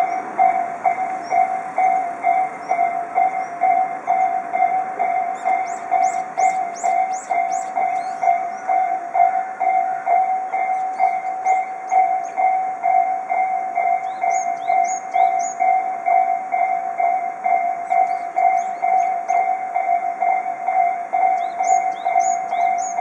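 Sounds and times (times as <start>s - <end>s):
level crossing alarm bells: 0.0s - 23.0s.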